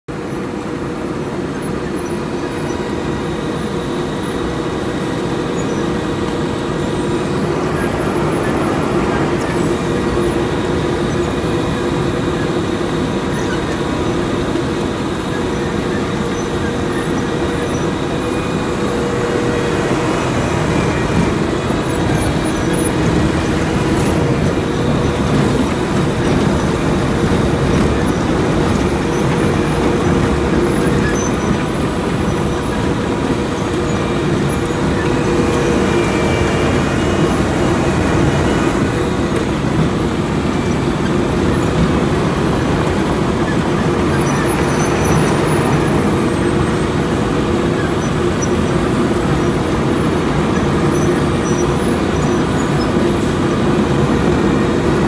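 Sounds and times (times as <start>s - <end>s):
milling machine droning: 0.1s - 55.0s.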